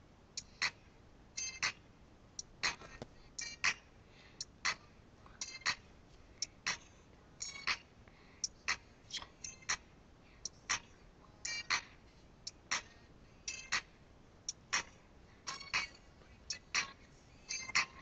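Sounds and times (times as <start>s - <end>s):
tinny music leaking from headphones: 0.0s - 18.0s.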